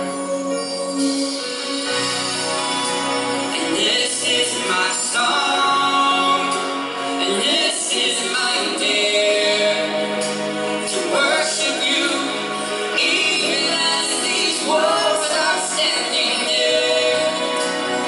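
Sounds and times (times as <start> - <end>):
instrumental accompaniment: 0.0 - 18.0
voices singing held notes: 0.9 - 18.0.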